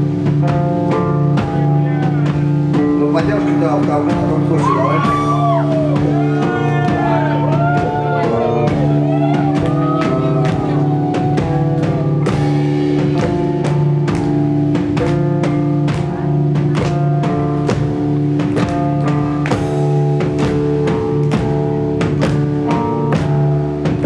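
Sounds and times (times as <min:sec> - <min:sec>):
bending lead guitar melody: 0:00.0 - 0:24.0
rock band playing: 0:00.0 - 0:24.0.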